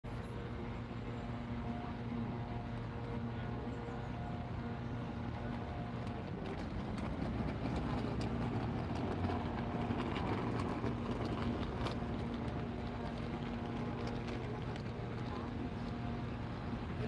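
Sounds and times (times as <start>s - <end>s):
city traffic drone: 0.0s - 17.0s
engine hum: 0.0s - 17.0s.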